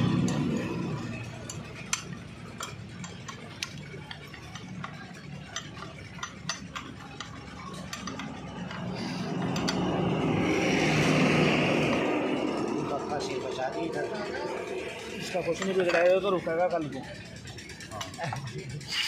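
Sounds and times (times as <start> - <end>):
metallic clicks of wrenches: 0.0 - 19.0.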